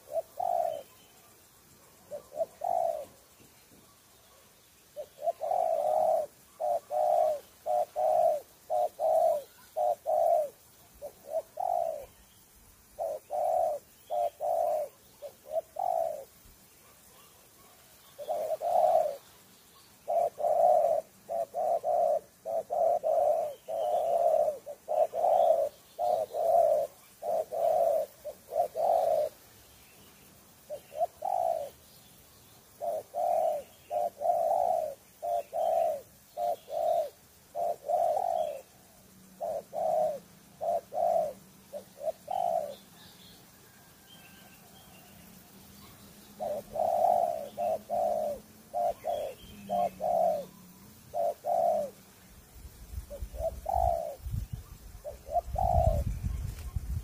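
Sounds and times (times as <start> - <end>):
dove cooing: 0.0 - 12.2, 12.8 - 29.5, 30.6 - 31.8, 32.6 - 52.1, 53.0 - 57.0.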